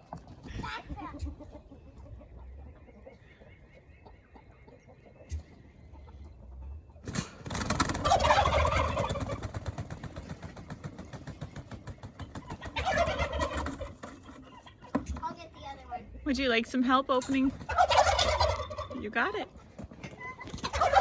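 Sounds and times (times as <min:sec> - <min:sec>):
poultry calling: 0:00.1 - 0:21.0.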